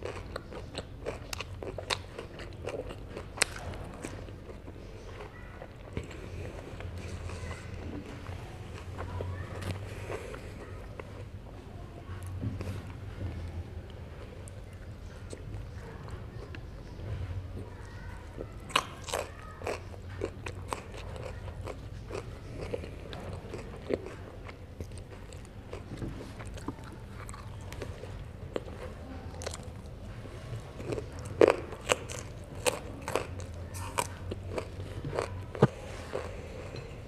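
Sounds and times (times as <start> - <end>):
crunchy chewing: 0.0 - 37.0.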